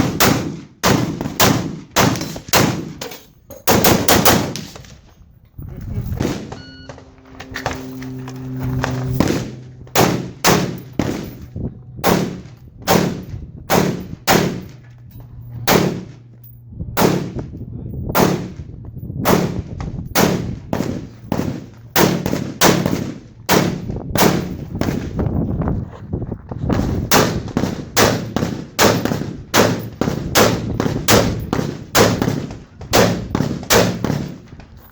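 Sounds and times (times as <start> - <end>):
rifle shots: 0.0 - 5.0, 6.2 - 7.0, 8.9 - 16.3, 17.0 - 25.1, 26.7 - 34.6.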